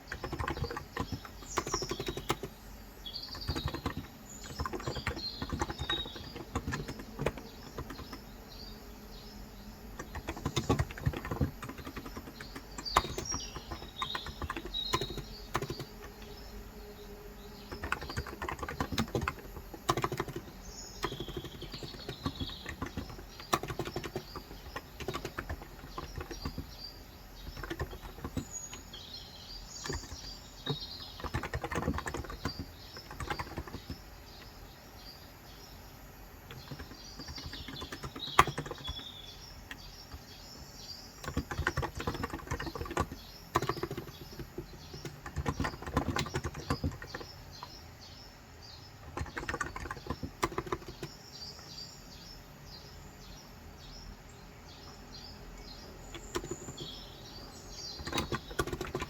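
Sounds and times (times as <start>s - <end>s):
keyboard typing: 0.0s - 34.8s, 36.3s - 47.8s, 49.0s - 51.9s, 55.7s - 59.0s
birds chirping: 0.0s - 59.0s.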